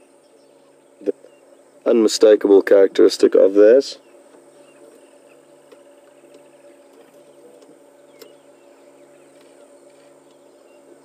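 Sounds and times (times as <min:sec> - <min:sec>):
faint bird or insect chirps: 0:00.0 - 0:11.0.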